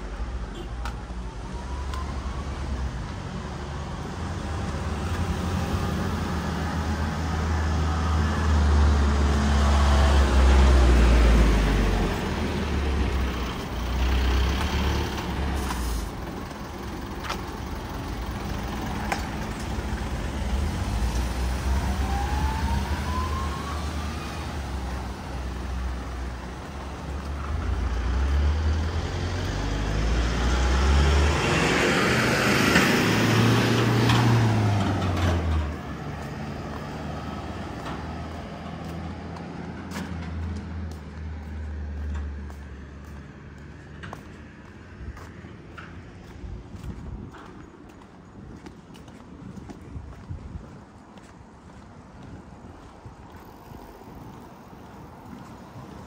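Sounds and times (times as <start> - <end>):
vehicle engine rumbling: 0.0 - 56.0.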